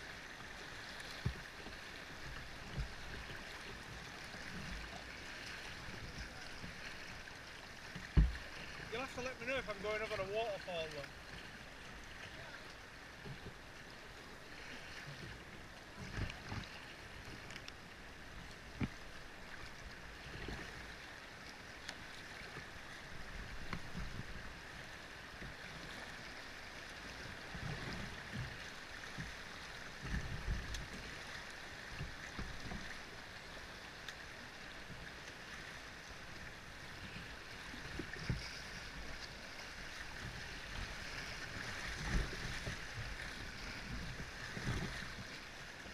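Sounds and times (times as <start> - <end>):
river water rushing and splashing: 0.0 - 45.9.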